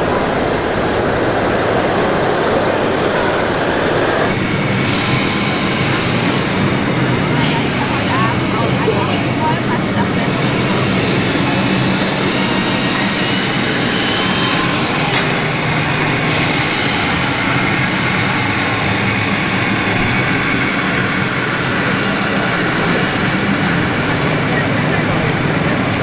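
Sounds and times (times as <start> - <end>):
model vehicle engine running: 3.9 - 26.0.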